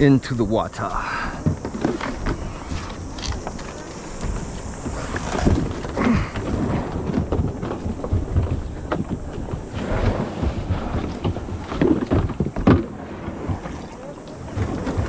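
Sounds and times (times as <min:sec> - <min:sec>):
wind rumbling on microphone: 0:00.0 - 0:15.0
kayak knocks and splashes: 0:01.2 - 0:15.0.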